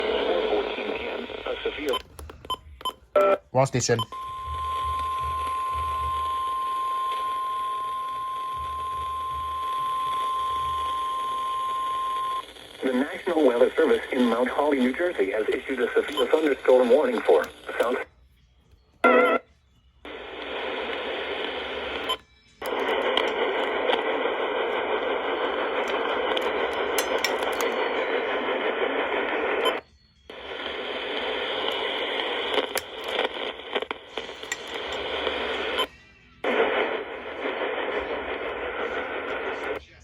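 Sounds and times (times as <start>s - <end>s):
radio static hiss: 0.0s - 18.1s, 20.1s - 40.0s.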